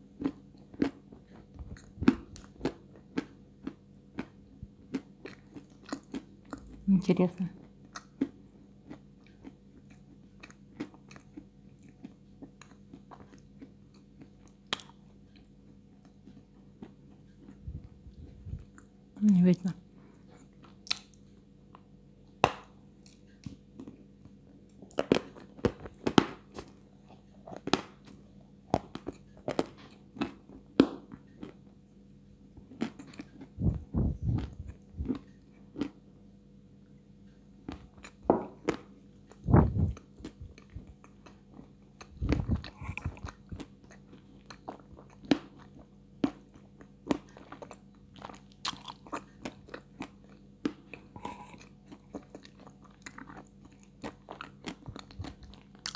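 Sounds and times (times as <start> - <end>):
close crunching and chewing: 0.1 - 6.9, 7.6 - 18.9, 24.7 - 31.8, 32.6 - 36.0, 37.6 - 55.9.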